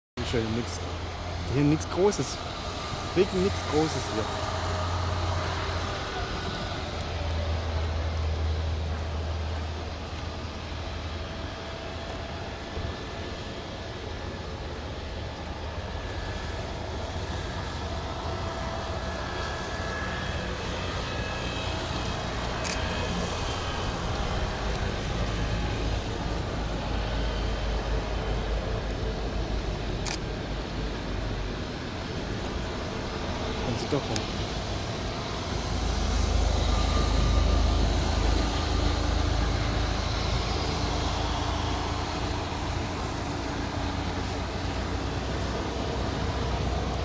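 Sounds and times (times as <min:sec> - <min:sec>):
jet airliner engines taxiing: 0:00.2 - 0:47.0.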